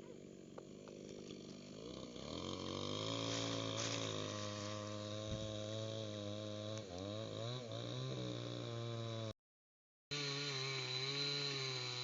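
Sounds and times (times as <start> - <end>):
small engine running: 0.0 - 9.3, 10.1 - 12.0.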